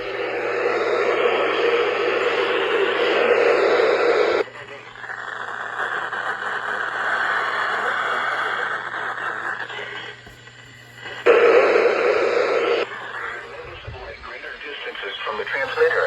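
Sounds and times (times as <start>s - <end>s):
burst of static: 0.0s - 16.0s
radio hiss: 0.0s - 16.0s
steady low hum: 0.0s - 16.0s.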